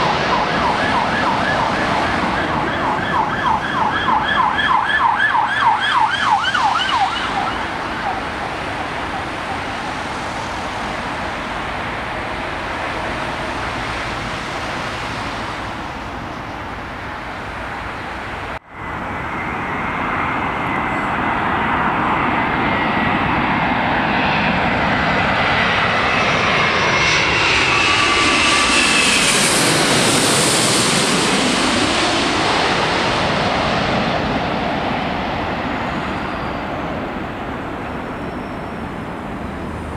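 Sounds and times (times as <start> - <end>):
jet airliner flying overhead: 0.0 - 39.9
jet engines rushing: 0.0 - 39.9.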